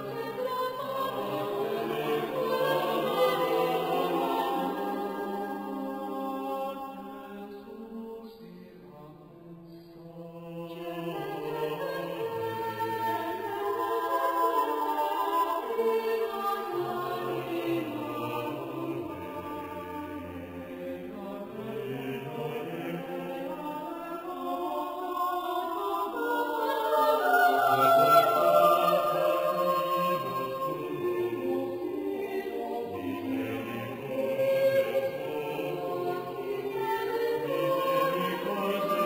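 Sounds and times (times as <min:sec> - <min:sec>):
choir singing a hymn: 0:00.0 - 0:39.0.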